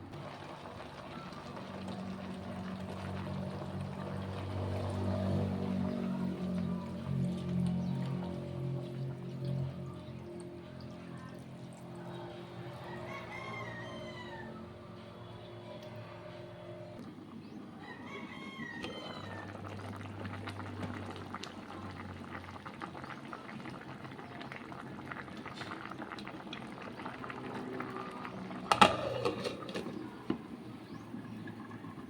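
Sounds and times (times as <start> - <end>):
pot bubbling: 0.0 - 16.0, 16.8 - 32.0.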